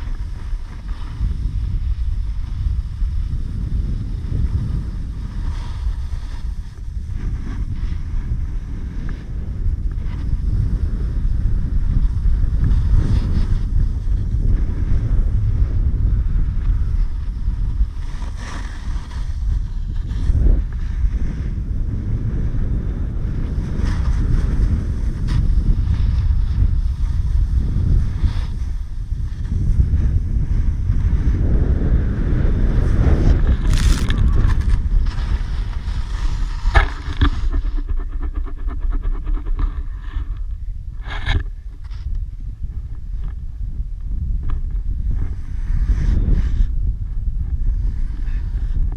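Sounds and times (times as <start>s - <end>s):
snowboard sliding on snow: 0.0s - 40.3s, 44.1s - 48.9s
wind buffeting microphone: 0.0s - 48.9s.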